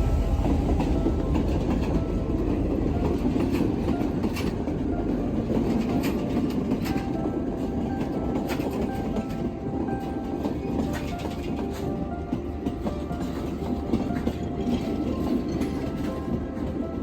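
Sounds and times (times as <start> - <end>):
train rumbling along track: 0.0 - 17.0
wheels clicking over rail joints: 0.0 - 17.0.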